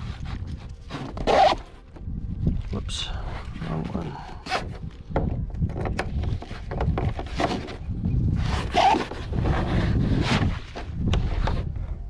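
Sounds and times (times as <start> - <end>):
straps and clasps handled: 0.0 - 2.7, 3.4 - 11.8
rubbing and scraping on kayak: 0.0 - 12.0.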